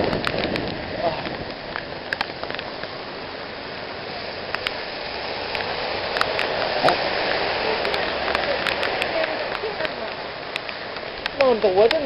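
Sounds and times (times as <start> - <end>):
heavy rain falling: 0.0 - 12.0
water drips ticking: 0.0 - 12.0.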